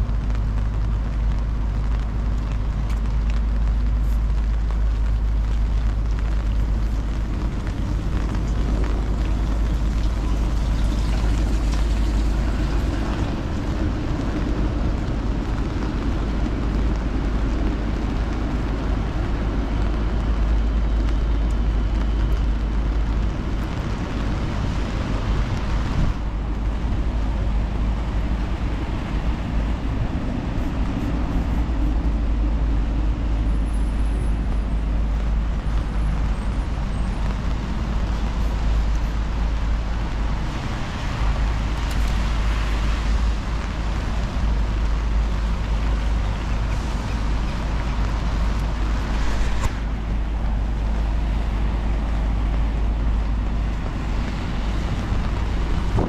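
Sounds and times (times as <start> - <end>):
deep rumble: 0.0 - 56.0
vehicles passing: 0.0 - 56.0.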